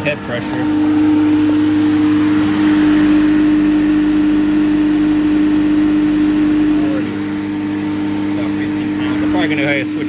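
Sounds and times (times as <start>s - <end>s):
machine humming and whirring: 0.0s - 10.0s.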